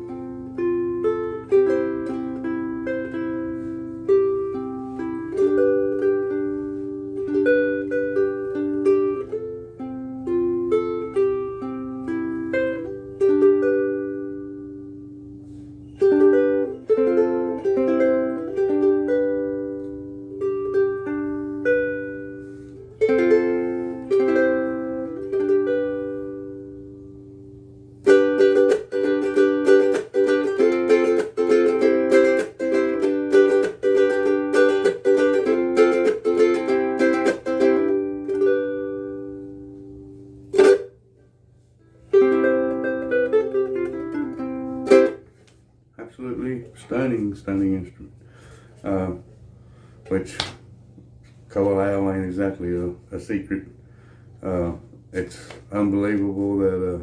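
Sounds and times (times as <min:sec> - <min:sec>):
ukulele playing melody: 0:00.0 - 0:47.2.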